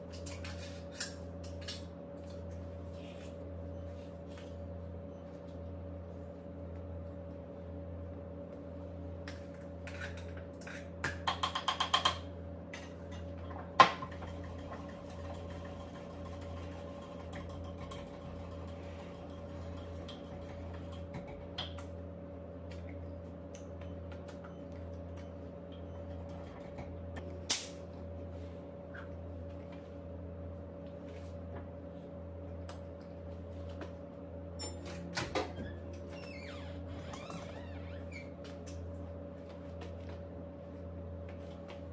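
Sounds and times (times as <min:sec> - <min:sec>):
low appliance hum: 0:00.0 - 0:41.9.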